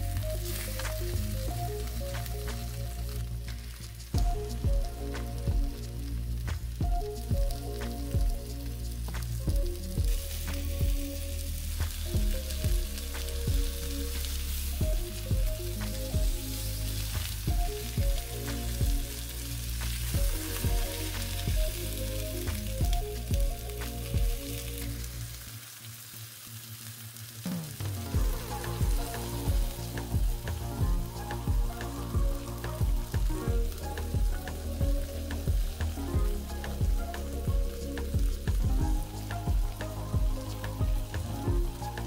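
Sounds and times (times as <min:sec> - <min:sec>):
background music with a beat: 0:00.0 - 0:25.5, 0:27.5 - 0:42.0
chicken sizzling in a pan: 0:00.0 - 0:42.0
spatula working in a pan: 0:00.0 - 0:42.0.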